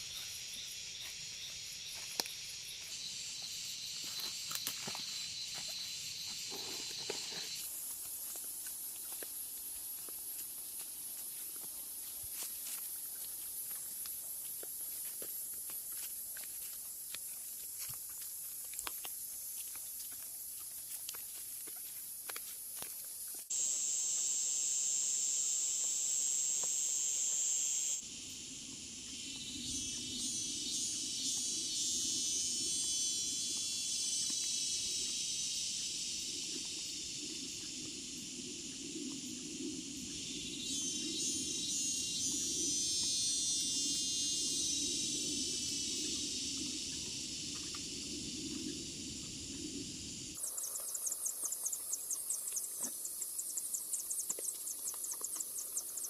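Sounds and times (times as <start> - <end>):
fast pulsing insect chirp: 0.0 - 56.0
insects buzzing: 0.0 - 56.0
rippling high insect drone: 0.0 - 56.0.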